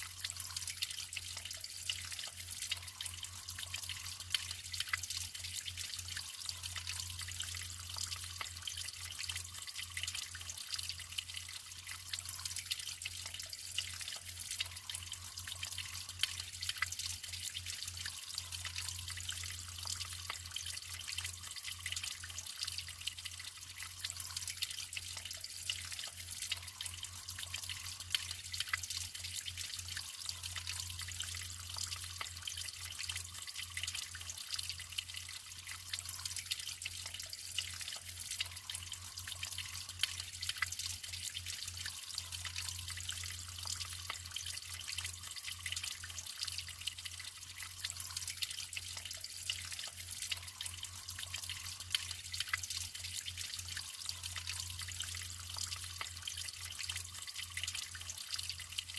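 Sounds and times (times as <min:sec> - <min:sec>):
running water trickling: 0:00.0 - 0:58.9
small drips and splashes: 0:00.0 - 0:58.9.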